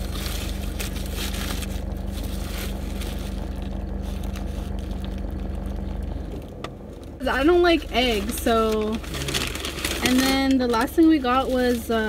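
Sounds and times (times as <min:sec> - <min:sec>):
paper wrapper rustling: 0:00.0 - 0:06.3, 0:07.4 - 0:12.0
car idling hum: 0:00.0 - 0:12.0.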